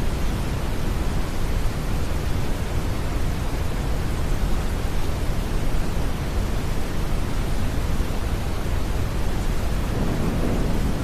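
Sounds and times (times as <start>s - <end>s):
deep brown noise hiss: 0.0s - 11.0s
soft rain: 0.0s - 11.0s.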